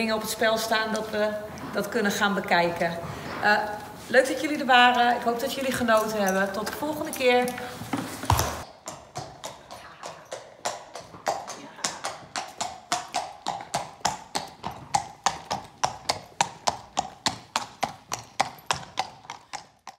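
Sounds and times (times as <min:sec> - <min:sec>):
horse hooves clip-clopping: 0:00.0 - 0:19.9.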